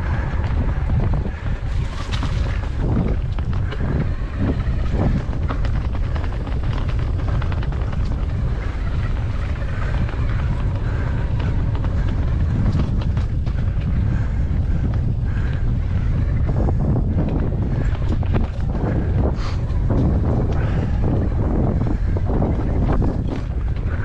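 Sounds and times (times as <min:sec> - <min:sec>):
bike rattles and clicks: 0:00.0 - 0:24.0
wind buffeting microphone: 0:00.0 - 0:24.0.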